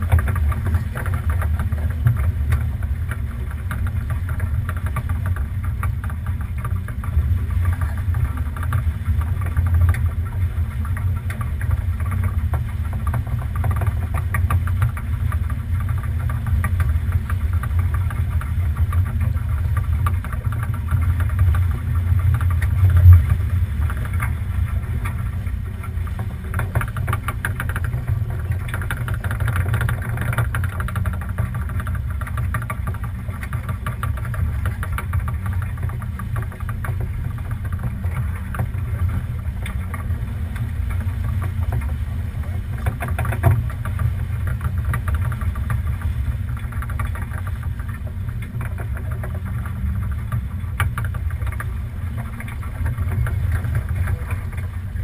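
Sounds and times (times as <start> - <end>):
rushing water: 0.0 - 55.0
small knocks: 0.0 - 55.0
wind buffeting microphone: 0.0 - 55.0.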